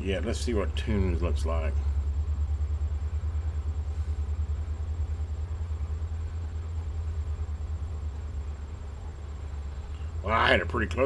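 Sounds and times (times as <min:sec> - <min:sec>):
low fluttering electrical hum: 0:00.0 - 0:11.0.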